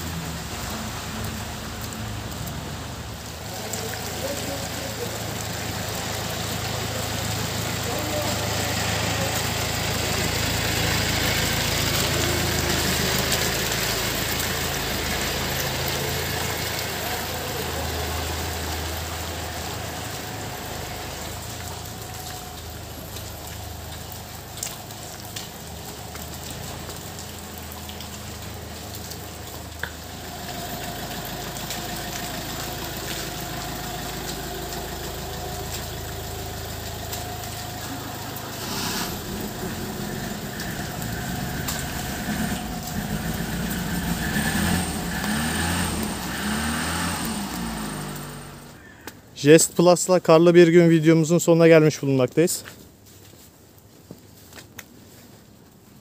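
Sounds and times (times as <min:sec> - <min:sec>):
minibus diesel engine running: 0:00.0 - 0:24.5, 0:28.4 - 0:48.8.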